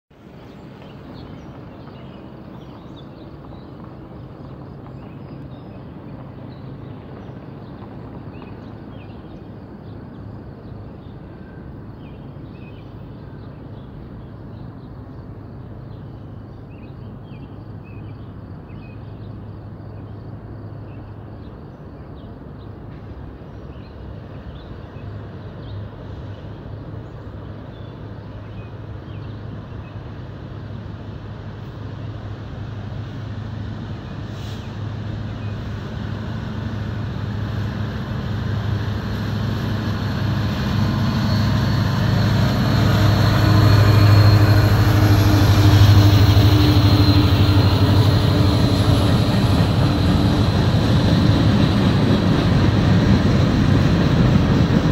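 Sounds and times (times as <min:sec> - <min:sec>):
diesel locomotives droning: 0:00.2 - 0:54.9.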